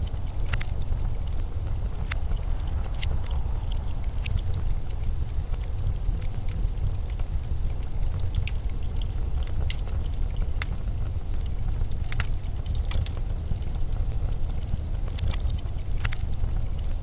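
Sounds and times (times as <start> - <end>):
blizzard wind rumble: 0.0 - 17.0
faint crackles and ticks: 0.0 - 17.0.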